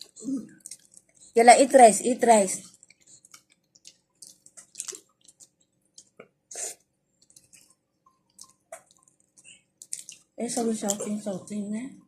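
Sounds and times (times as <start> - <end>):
wet chewing and lip smacks: 0.0 - 1.4, 2.6 - 11.0.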